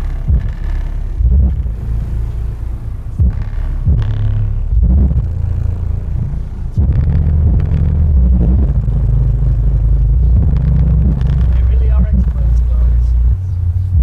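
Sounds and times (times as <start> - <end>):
loud deep subwoofer bass: 0.0 - 14.0.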